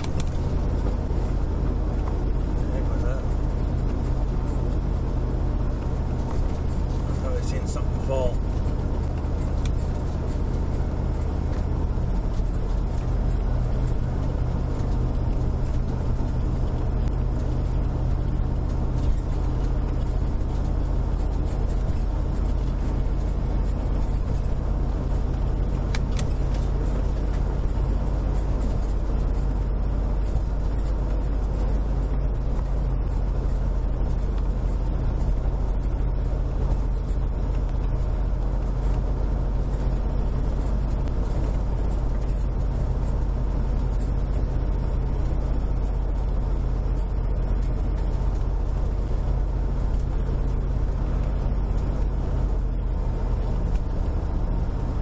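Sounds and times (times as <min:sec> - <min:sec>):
engine rumble: 0:00.0 - 0:55.0.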